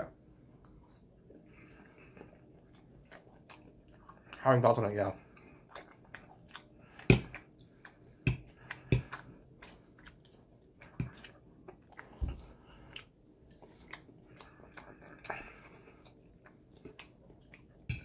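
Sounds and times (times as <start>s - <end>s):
chewing with wet mouth clicks: 0.6s - 4.4s, 5.2s - 18.0s.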